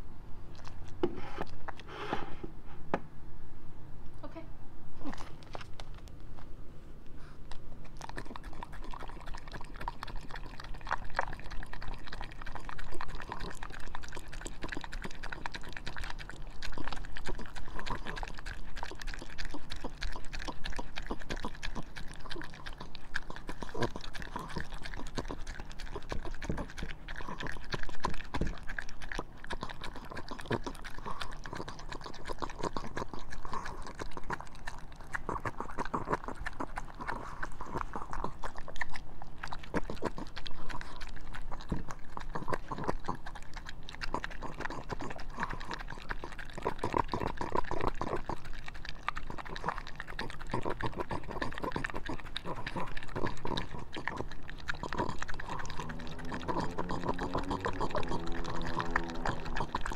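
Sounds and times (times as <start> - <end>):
dog chewing and licking: 0.5 - 2.0, 7.2 - 59.9
smacks and clicks of eating: 0.5 - 2.3, 5.0 - 6.5, 7.1 - 59.9.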